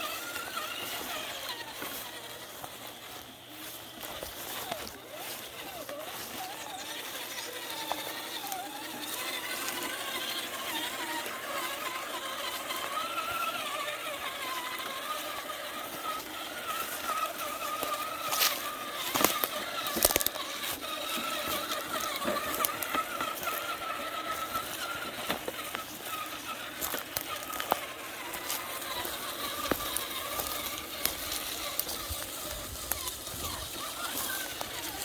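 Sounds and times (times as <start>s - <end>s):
rc car motor whining: 0.0s - 35.0s.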